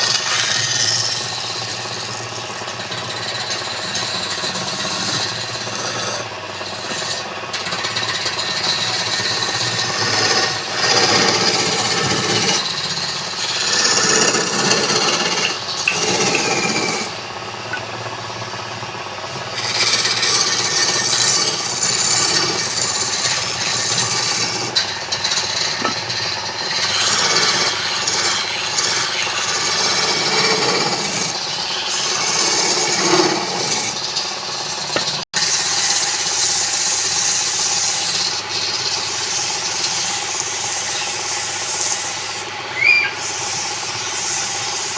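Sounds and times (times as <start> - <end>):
tool scraping wood: 0.0 - 18.3, 19.5 - 44.9.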